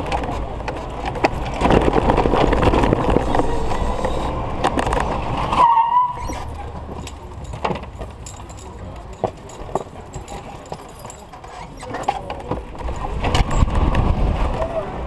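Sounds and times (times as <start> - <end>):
cart body rattling and knocking: 0.0 - 14.6
tyres rolling on pavement: 0.0 - 15.0.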